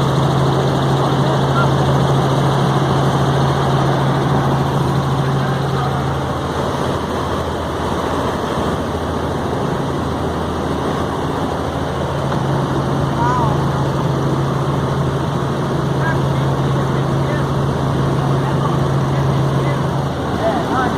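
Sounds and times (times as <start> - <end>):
helicopter engine and rotor: 0.0 - 20.9.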